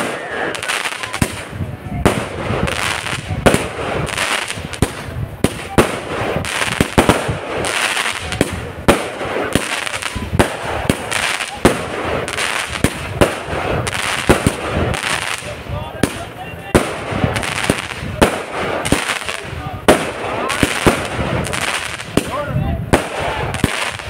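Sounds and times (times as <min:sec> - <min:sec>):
crackling star bursts: 0:00.0 - 0:24.0
fireworks bangs: 0:00.0 - 0:24.0.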